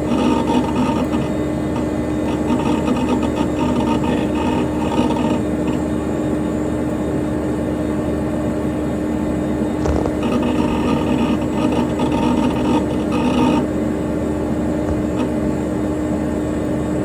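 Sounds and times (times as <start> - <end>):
computer cooling fan humming: 0.0 - 17.0
hard drive clicking and whirring: 0.0 - 17.0.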